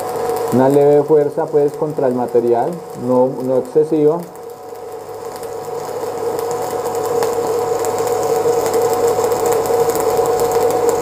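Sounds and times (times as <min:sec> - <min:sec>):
steady hum: 0:00.0 - 0:11.0
welding arc crackling and sizzling: 0:00.0 - 0:11.0.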